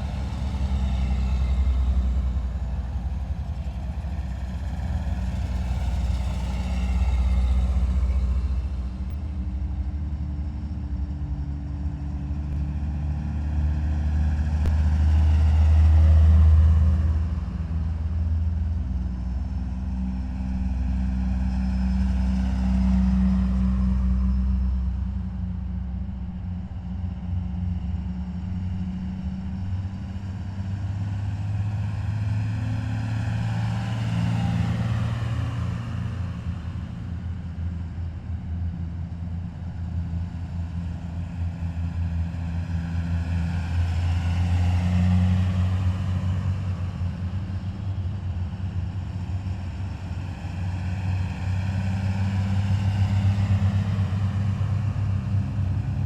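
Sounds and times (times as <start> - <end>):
heavy military vehicles driving past: 0.0 - 56.0.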